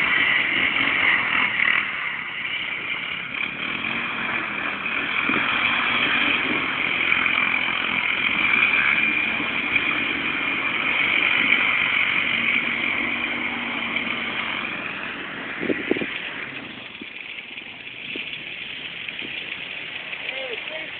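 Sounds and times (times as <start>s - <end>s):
quad bike engine running: 0.0s - 20.9s.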